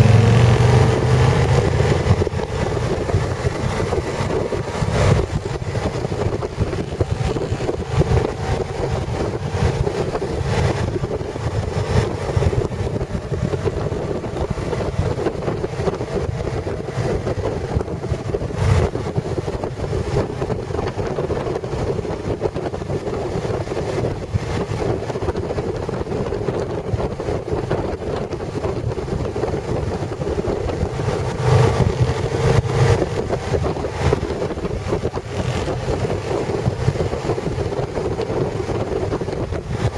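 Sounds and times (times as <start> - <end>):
motorcycle engine drone: 0.0 - 39.9
wind buffeting microphone: 0.0 - 39.9.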